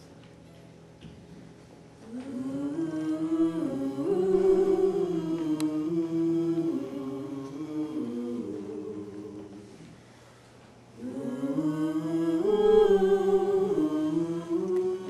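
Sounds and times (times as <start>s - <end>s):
ensemble singing held chords: 2.0s - 15.0s.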